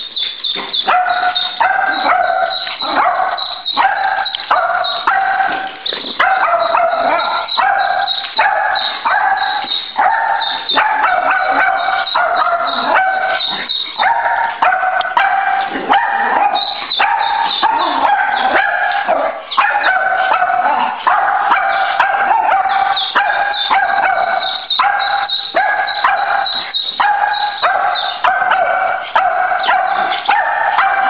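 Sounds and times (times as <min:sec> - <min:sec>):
dog yelping and howling: 0:00.7 - 0:31.0.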